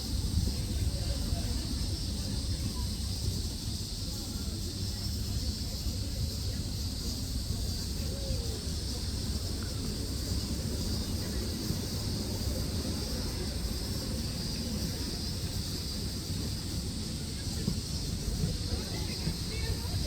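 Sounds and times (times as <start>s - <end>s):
high hiss: 0.0s - 20.0s.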